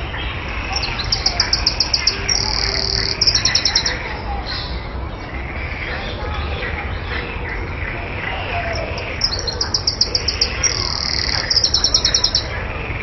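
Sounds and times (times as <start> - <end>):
wren singing: 0.0 - 13.0.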